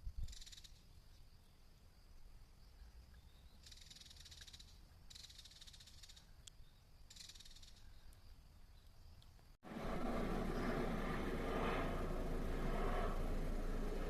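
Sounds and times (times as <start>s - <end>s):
insect buzzy trills: 0.0s - 14.0s.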